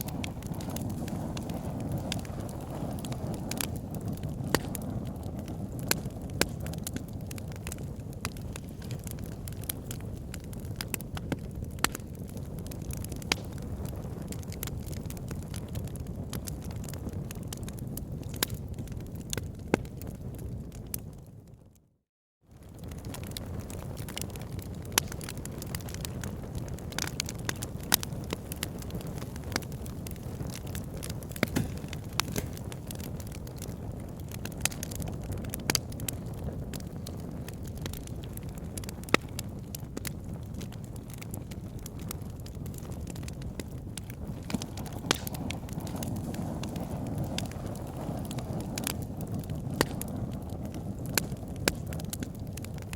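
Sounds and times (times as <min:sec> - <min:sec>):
loud fire pops: 0:00.0 - 0:21.3, 0:22.5 - 0:52.9
wood fire crackling: 0:00.0 - 0:21.5, 0:22.5 - 0:52.9.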